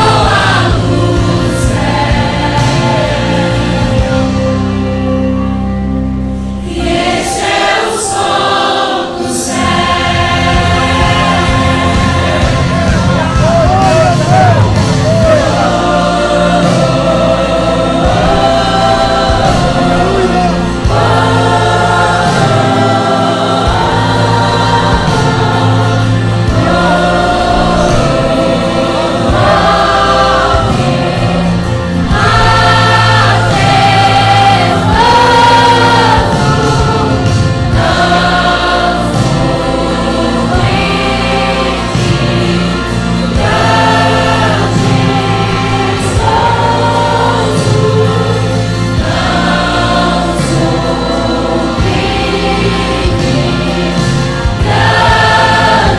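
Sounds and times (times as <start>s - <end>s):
choir singing worship music: 0.0s - 55.9s
instrumental accompaniment: 0.0s - 55.9s.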